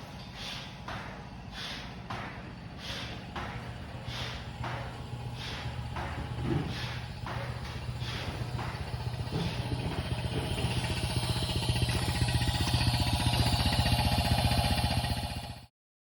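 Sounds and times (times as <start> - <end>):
engine running with fast pulse: 0.4 - 15.7.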